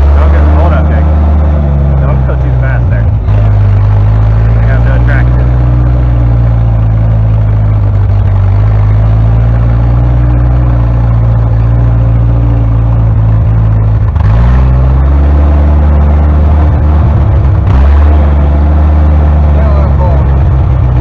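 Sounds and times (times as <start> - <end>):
four-cylinder engine running: 0.0 - 21.0.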